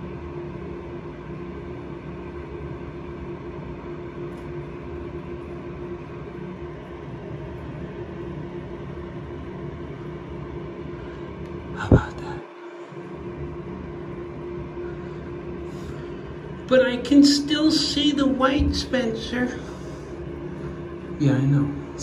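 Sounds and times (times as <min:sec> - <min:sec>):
machine hum with steady tone: 0:00.0 - 0:22.0.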